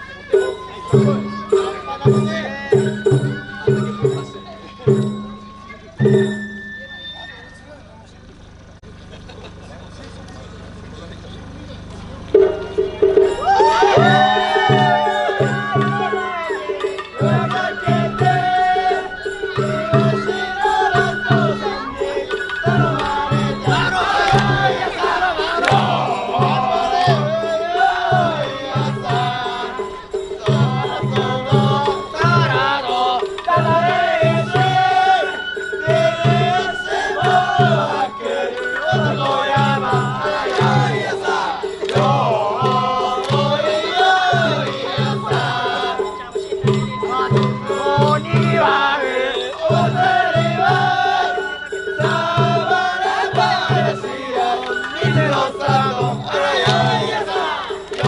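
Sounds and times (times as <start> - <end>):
high wavering melody: 0.0 - 8.8, 11.0 - 58.0
taiko drums beating: 0.3 - 7.0, 12.2 - 58.0.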